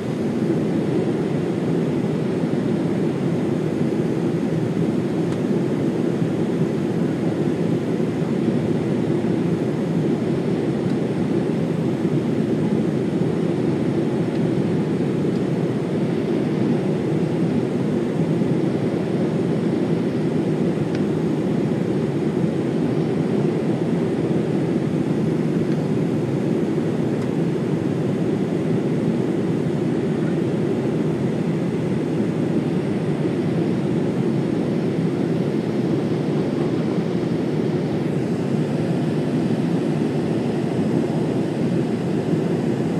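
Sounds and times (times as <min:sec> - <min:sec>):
airliner cabin rumble: 0:00.0 - 0:42.9.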